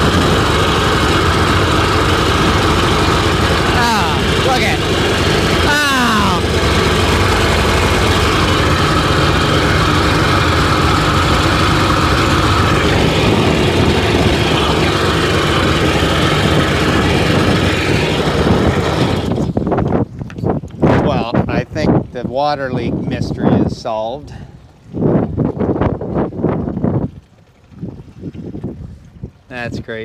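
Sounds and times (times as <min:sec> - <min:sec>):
two-stroke engine running: 0:00.0 - 0:22.1, 0:22.7 - 0:29.7.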